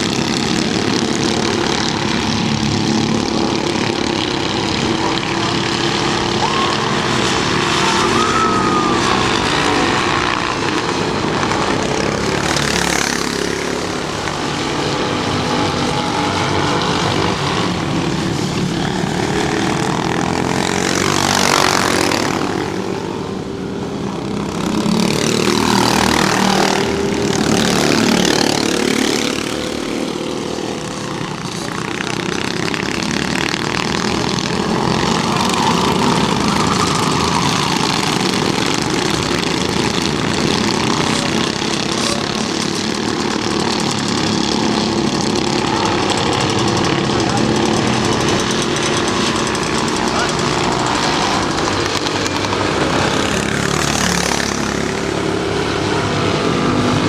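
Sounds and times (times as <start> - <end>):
racing kart engines: 0.0 - 57.0.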